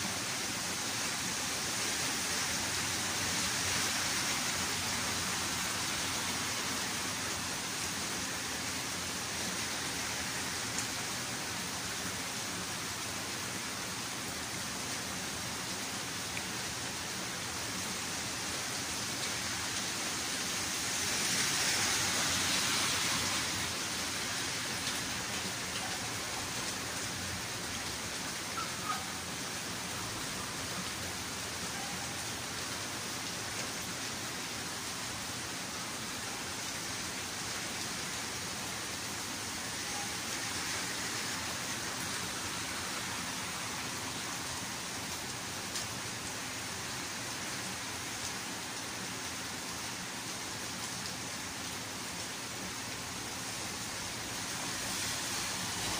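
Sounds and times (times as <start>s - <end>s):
rain falling on plants and paving: 0.0s - 55.9s.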